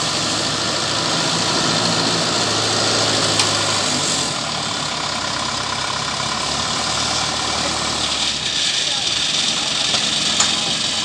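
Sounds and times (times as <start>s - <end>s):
tracked carrier engine running: 0.0s - 11.0s.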